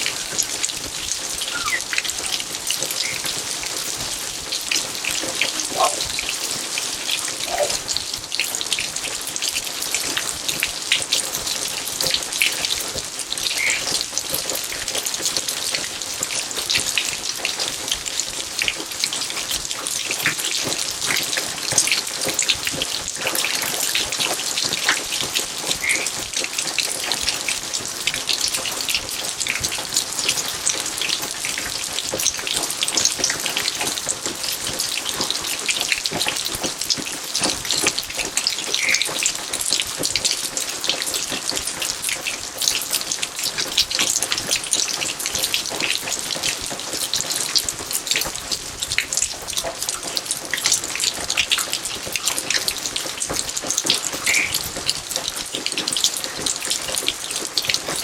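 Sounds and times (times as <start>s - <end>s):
rain falling on garden: 0.0s - 58.0s.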